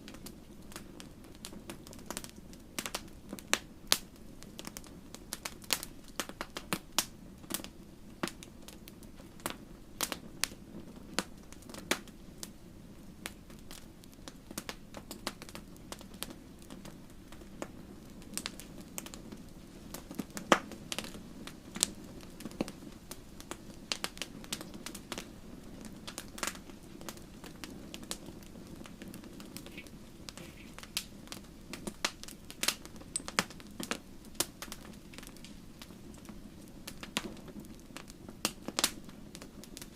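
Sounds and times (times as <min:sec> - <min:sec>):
fire crackling and popping: 0:00.0 - 0:39.9
wood fire burning: 0:00.0 - 0:39.9.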